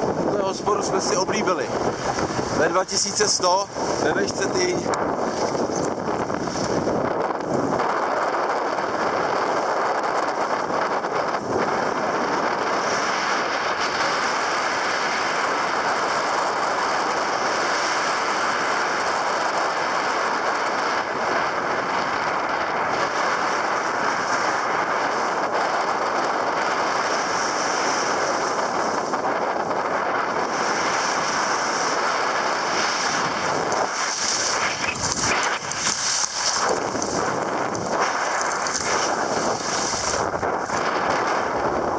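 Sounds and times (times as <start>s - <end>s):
skis scraping on snow: 0.0s - 18.9s, 22.8s - 41.9s
wind on microphone: 0.0s - 41.9s.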